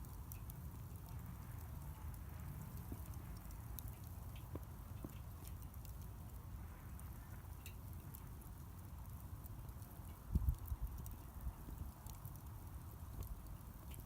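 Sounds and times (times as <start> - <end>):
bonfire crackling: 0.0 - 14.0
low steady rumble: 0.0 - 14.0.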